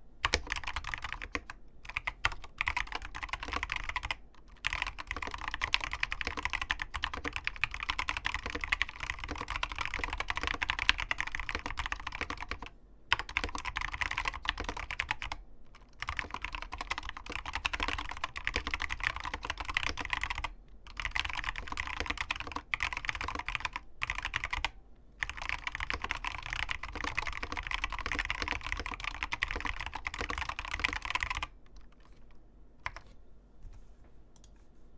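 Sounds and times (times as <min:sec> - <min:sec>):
fast typing on mechanical keyboard: 0:00.2 - 0:33.1.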